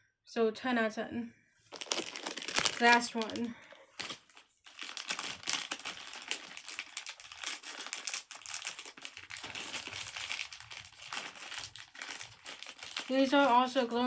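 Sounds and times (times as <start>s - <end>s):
packaging rustling and crackling: 1.7s - 14.0s.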